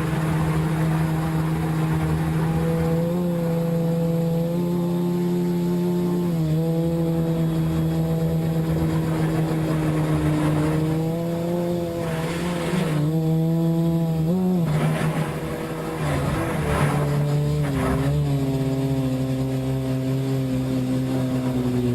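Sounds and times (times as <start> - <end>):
drone motors and propellers humming: 0.0 - 21.9.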